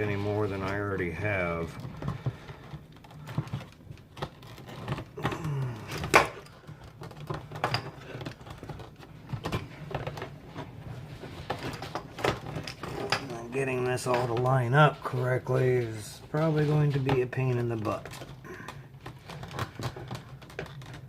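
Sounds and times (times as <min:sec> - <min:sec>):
plastic parts clicking and knocking: 0:00.0 - 0:15.2, 0:15.8 - 0:21.0.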